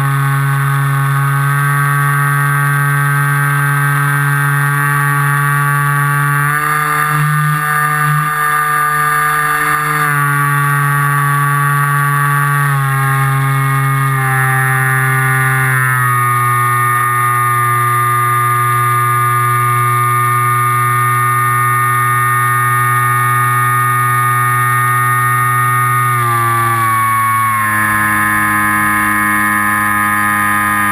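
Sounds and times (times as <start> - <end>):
drone motor and propeller: 0.0 - 30.9.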